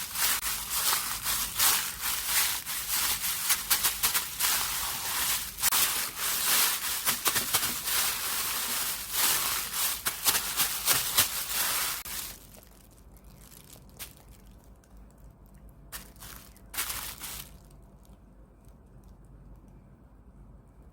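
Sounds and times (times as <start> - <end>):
slime crackling as squeezed: 0.0 - 19.2.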